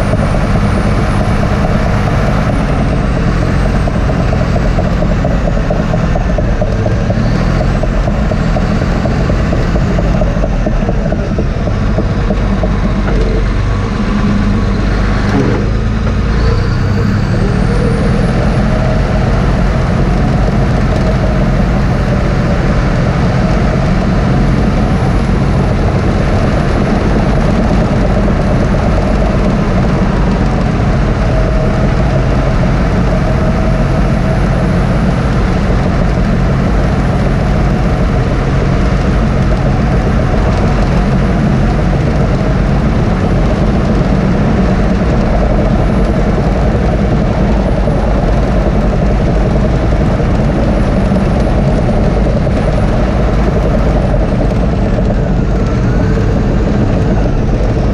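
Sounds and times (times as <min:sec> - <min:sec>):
bulldozer diesel engine under load: 0:00.0 - 0:57.9.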